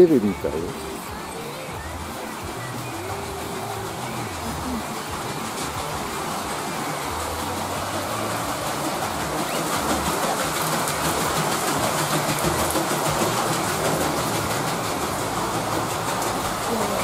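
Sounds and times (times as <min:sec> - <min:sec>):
water splashing off wheel: 0:00.0 - 0:17.0
water wheel rumbling clatter: 0:00.0 - 0:17.0.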